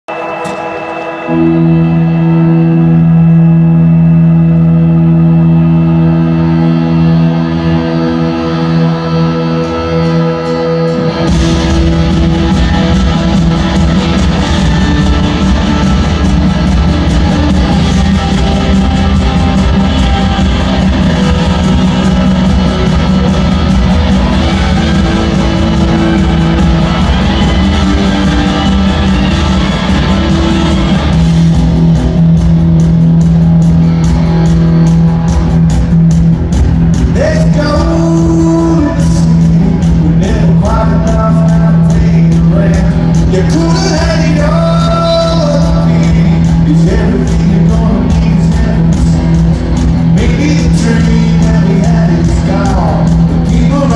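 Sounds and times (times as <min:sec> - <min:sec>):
rock song with guitars and singing: 0:00.1 - 0:53.9.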